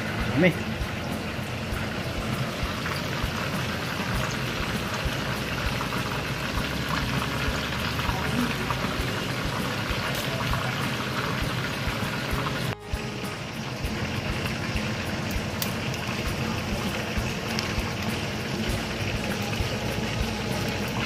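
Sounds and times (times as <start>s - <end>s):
fish frying in hot oil: 0.0s - 21.0s.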